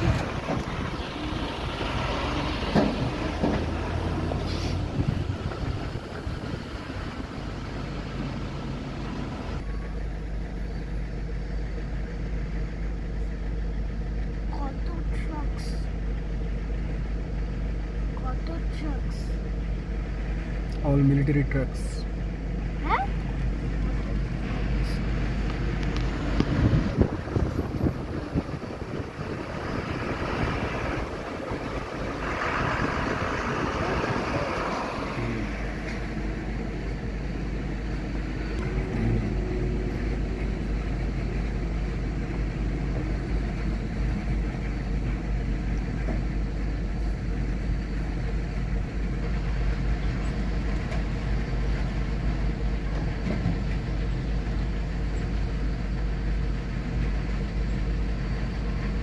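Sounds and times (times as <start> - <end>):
low engine rumble: 0.0 - 59.0
trucks driving past: 0.0 - 59.0.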